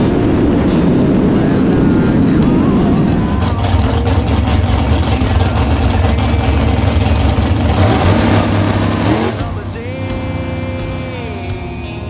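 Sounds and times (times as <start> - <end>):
roadster engine idling: 1.2 - 12.0.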